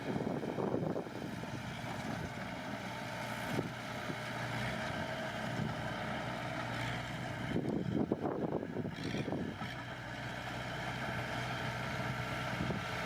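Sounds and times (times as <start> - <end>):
diesel engine of heavy machinery: 0.0 - 13.0.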